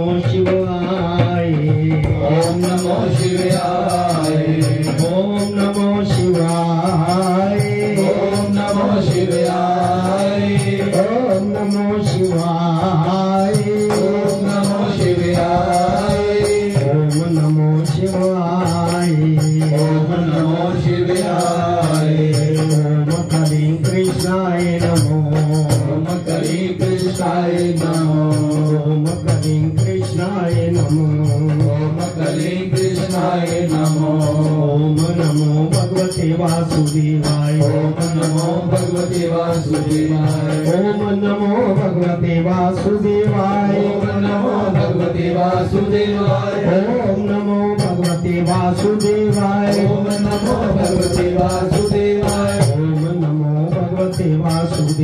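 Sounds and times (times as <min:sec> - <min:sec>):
man chanting into a microphone: 0:00.0 - 0:55.0
hand percussion ticking: 0:00.1 - 0:55.0.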